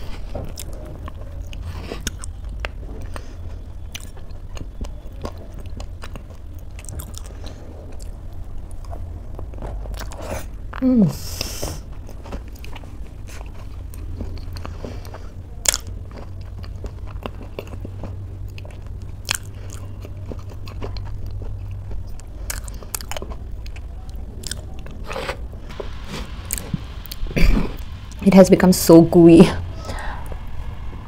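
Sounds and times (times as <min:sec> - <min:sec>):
chewing oatmeal: 0:00.0 - 0:10.9, 0:11.5 - 0:25.5
steady low hum: 0:00.0 - 0:31.0.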